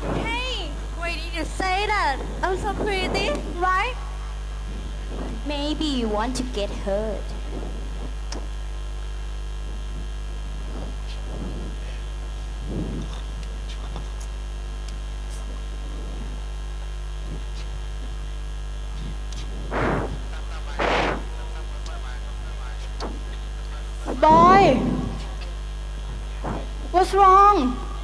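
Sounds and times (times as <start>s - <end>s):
low electrical mains hum: 0.0s - 28.0s.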